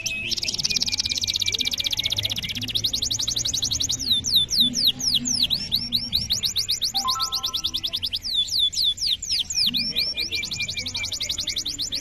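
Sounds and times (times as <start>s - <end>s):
canary singing trills: 0.0s - 12.0s.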